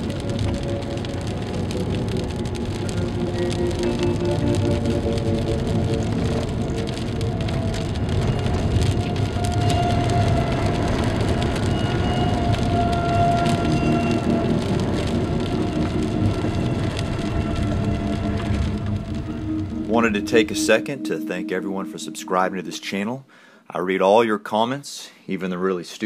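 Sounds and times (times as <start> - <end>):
raindrop clicks: 0.0 - 22.9
soft music with long held notes: 0.0 - 23.3
rain hissing: 0.0 - 23.6.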